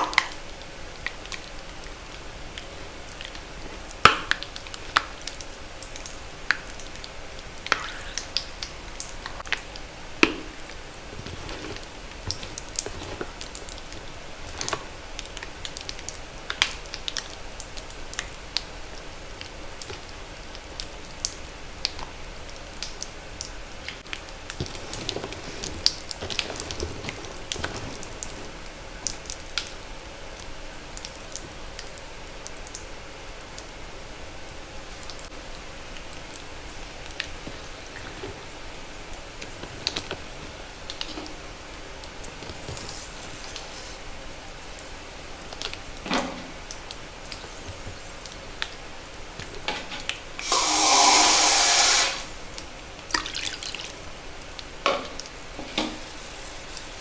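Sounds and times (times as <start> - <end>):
soft hiss: 0.0 - 57.0.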